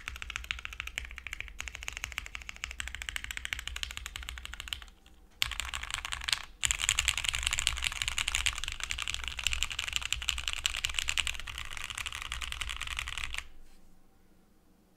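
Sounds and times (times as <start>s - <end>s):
fast mechanical keyboard typing: 0.0s - 13.5s.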